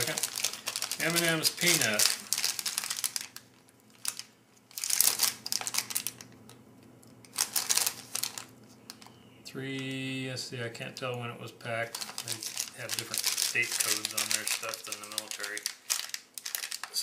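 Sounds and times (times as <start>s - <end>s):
candy wrapper crinkling: 0.0s - 9.1s, 11.8s - 17.0s.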